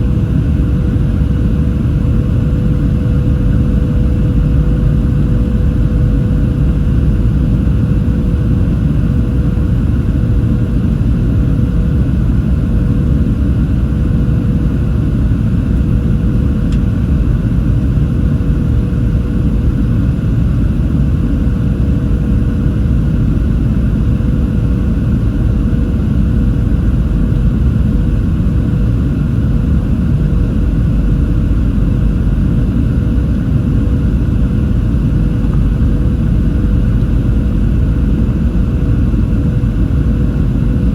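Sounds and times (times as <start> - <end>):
aircraft cabin engine rumble: 0.0 - 40.9
constant hum: 0.0 - 40.9.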